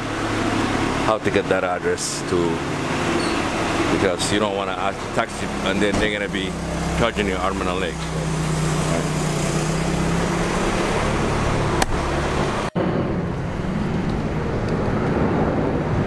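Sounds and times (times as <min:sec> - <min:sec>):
street traffic engine hum: 0:00.0 - 0:16.0.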